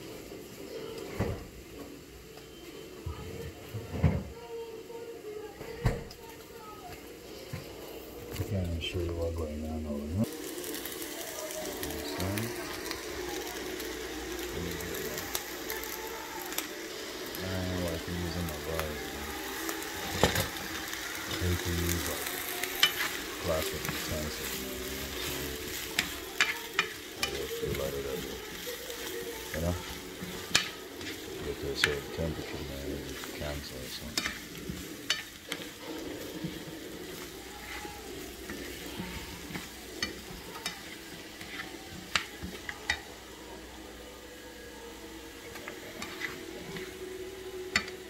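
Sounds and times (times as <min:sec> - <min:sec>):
vegetables sizzling in a skillet: 0:00.0 - 0:48.0.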